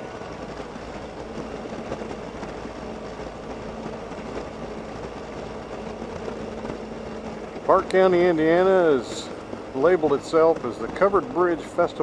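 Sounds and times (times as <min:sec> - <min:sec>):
rush of wind noise: 0:00.0 - 0:12.0
scooter engine running: 0:00.0 - 0:12.0.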